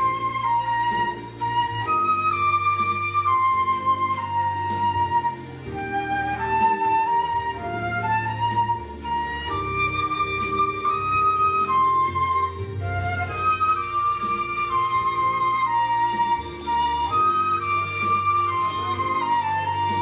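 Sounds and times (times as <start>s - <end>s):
flute melody: 0.0s - 20.0s
sustained low backing track: 0.0s - 20.0s.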